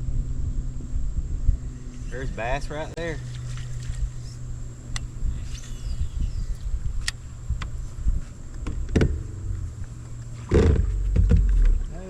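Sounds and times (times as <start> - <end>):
electric boat motor humming: 0.0 - 12.0
wind buffeting microphone: 0.0 - 12.0.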